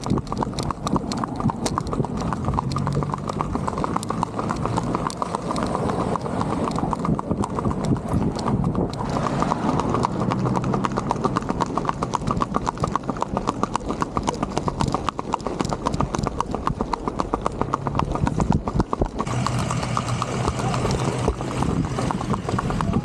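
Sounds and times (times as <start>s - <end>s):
horse hooves clip-clop on asphalt: 0.0s - 23.0s.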